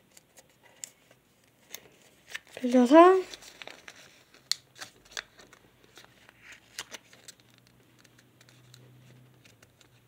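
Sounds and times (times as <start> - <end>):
paper crinkling and clicking: 0.1 - 10.0.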